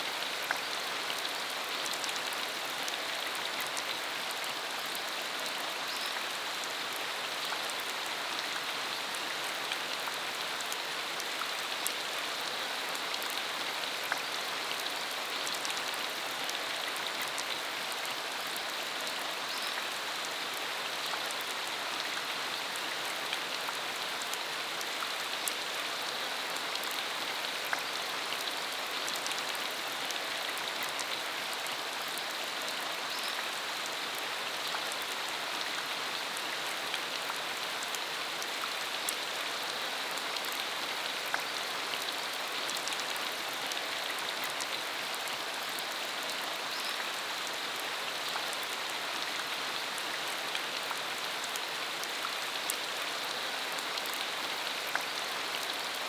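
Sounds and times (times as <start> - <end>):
rain falling on dirt road: 0.0 - 56.0.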